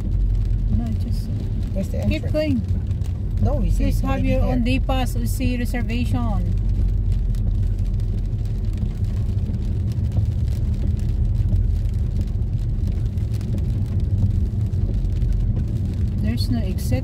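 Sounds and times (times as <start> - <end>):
car engine rumble: 0.0 - 17.0
tyres on wet road: 0.0 - 17.0.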